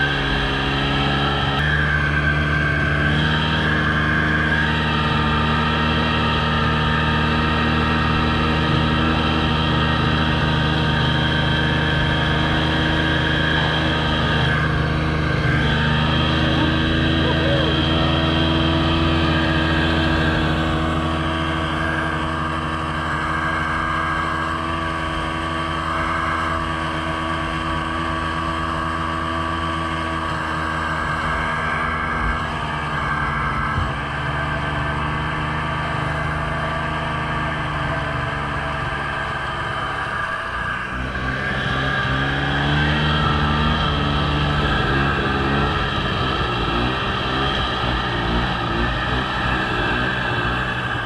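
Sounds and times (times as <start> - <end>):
snowmobile engine running: 0.0 - 51.0.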